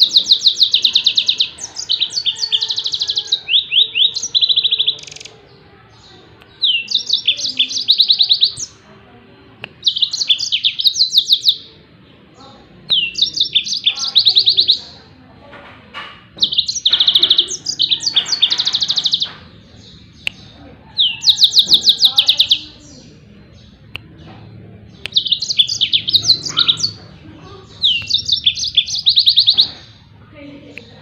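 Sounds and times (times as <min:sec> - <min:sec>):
canary singing fast phrases: 0:00.0 - 0:15.4, 0:16.2 - 0:31.0.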